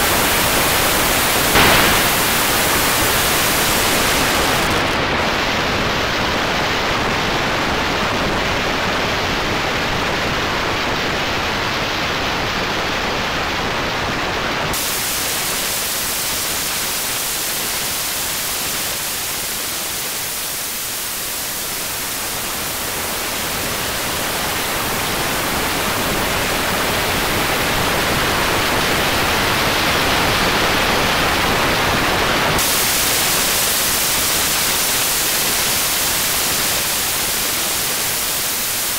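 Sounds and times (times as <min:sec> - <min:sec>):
static-like electronic hiss: 0:00.0 - 0:38.9.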